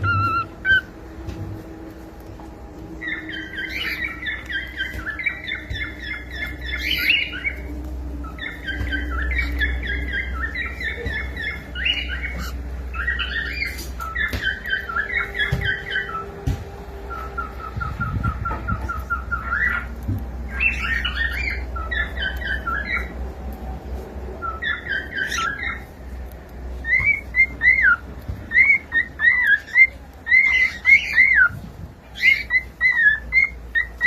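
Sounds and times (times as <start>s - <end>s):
cockatiel chirping: 0.0s - 1.0s, 3.0s - 23.2s, 24.4s - 25.9s, 26.8s - 34.0s.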